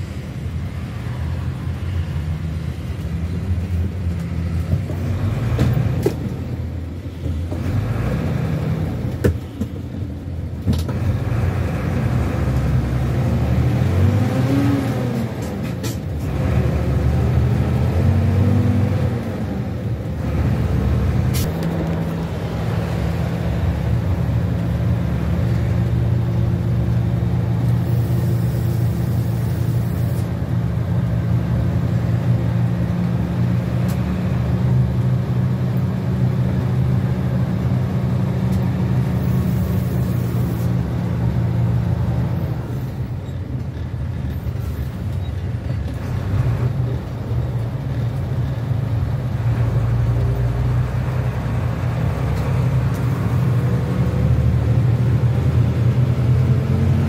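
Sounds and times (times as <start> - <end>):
bus engine droning: 0.0 - 57.0
road noise: 0.0 - 57.0.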